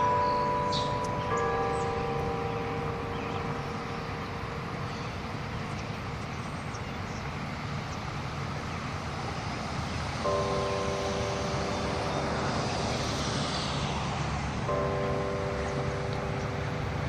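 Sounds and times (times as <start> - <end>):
church bell ringing: 0.0 - 8.3, 10.2 - 17.0
steady background rush: 0.0 - 17.0.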